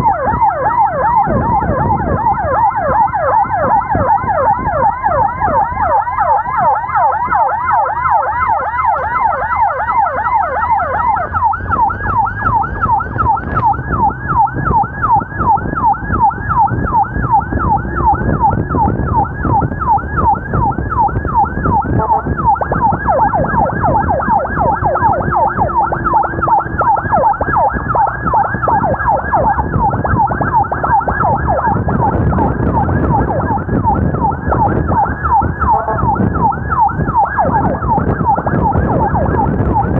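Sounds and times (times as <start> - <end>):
emergency siren yelping: 0.0 - 39.9
engine and road rumble: 0.0 - 39.9.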